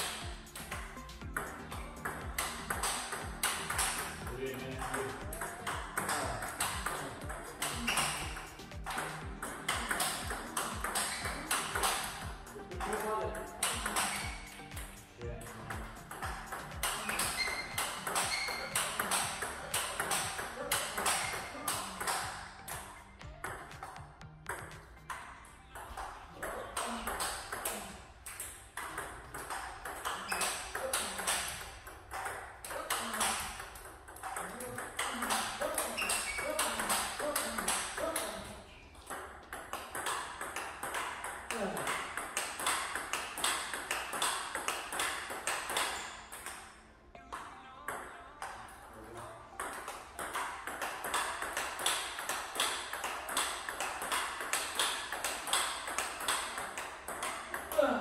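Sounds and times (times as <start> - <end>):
ping pong ball bouncing on table: 0.0 - 48.8, 49.4 - 58.0
ping pong ball hitting paddles: 0.0 - 58.0.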